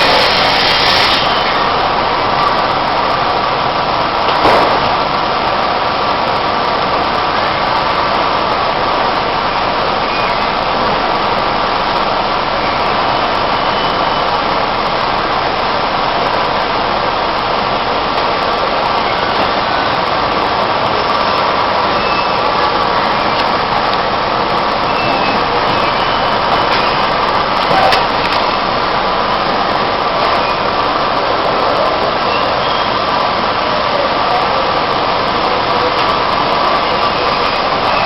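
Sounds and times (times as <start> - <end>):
industrial vacuum cleaner running: 0.0 - 38.0.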